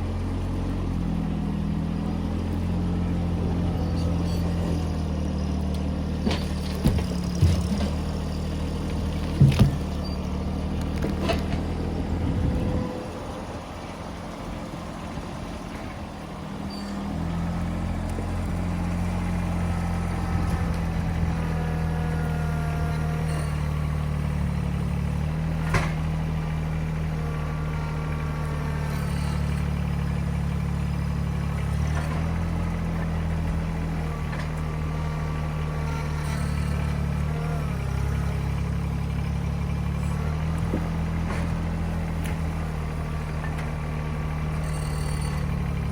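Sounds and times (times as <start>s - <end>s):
heavy machine engine running: 0.0s - 45.9s.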